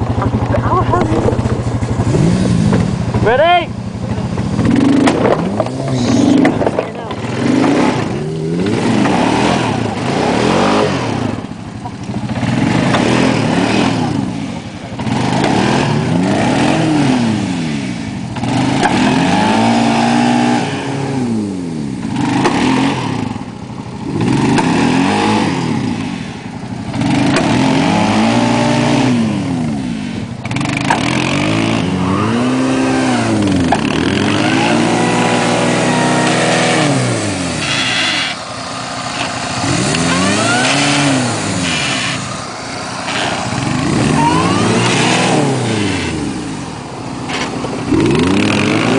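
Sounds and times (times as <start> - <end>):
vehicle engine revving: 0.0 - 48.9.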